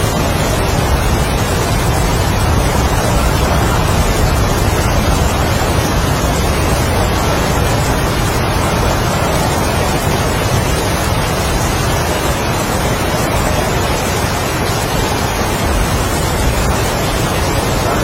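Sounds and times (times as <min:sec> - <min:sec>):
heavy rain: 0:00.0 - 0:18.0
strong wind: 0:00.0 - 0:18.0.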